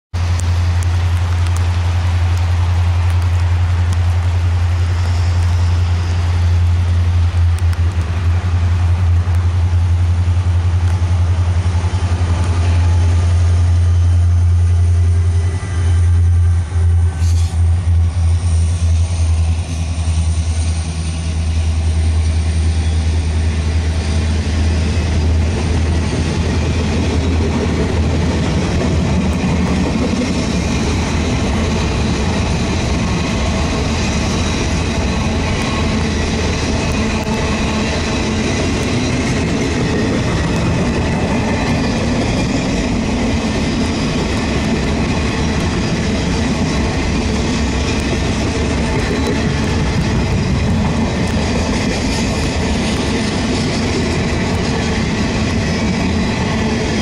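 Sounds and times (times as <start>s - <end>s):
train low rumble: 0.1s - 57.0s
train wheels on rails: 0.1s - 57.0s.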